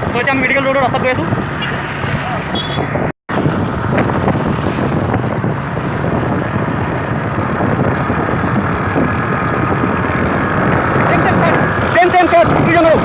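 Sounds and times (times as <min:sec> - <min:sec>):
vehicle engine and road noise: 0:00.0 - 0:13.0
wind buffeting microphone: 0:00.0 - 0:13.0.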